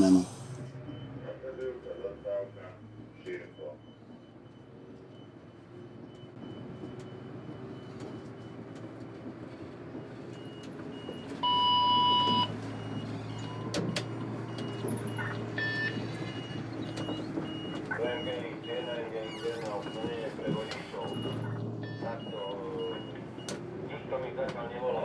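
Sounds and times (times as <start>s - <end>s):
bus engine running: 0.0s - 25.0s.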